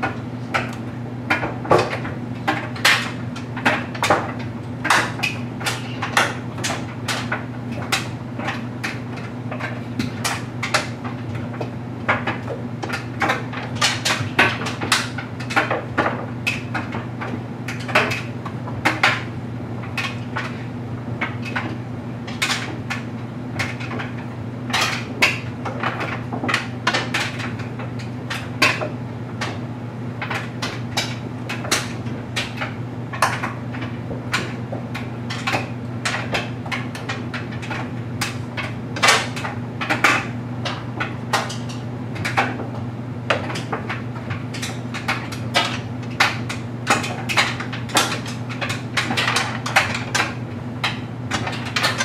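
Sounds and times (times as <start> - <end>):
clothes dryer motor hum: 0.0 - 52.0
load knocking in dryer drum: 0.0 - 52.0.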